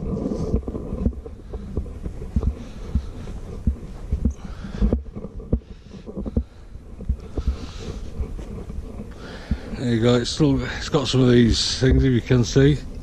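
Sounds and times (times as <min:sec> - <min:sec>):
footsteps dull thuds: 0:00.0 - 0:11.3.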